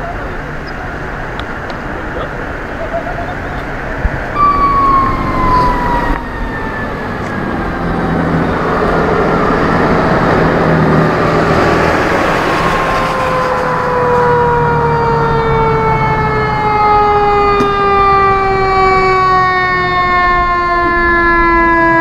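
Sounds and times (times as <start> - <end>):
truck engine noise: 0.0 - 22.0
fire engine siren: 2.4 - 22.0.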